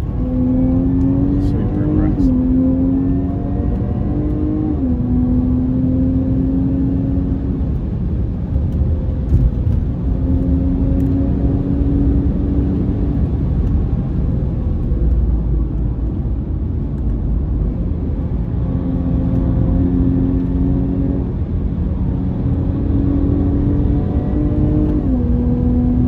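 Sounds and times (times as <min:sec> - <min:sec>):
car engine from inside cabin: 0:00.0 - 0:26.0
road and tyre rumble: 0:00.0 - 0:26.0.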